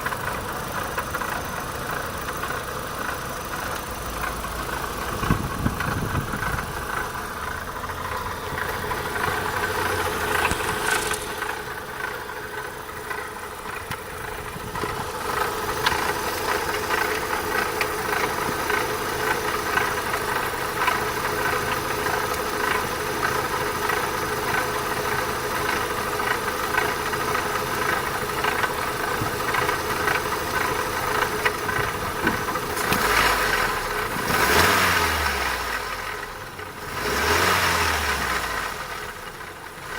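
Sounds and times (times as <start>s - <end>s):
car engine idling: 0.0s - 39.9s
rapid engine rattling ticking: 0.0s - 39.9s.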